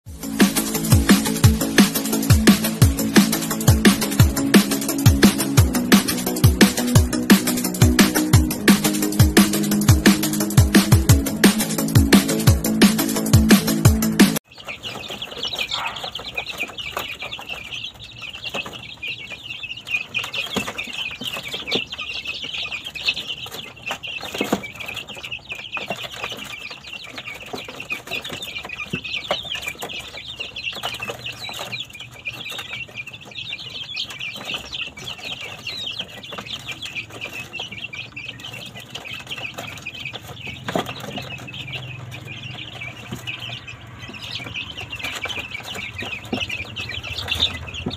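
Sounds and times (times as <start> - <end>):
chicks peeping: 0.1 - 47.9
birds scuffling: 0.2 - 47.9.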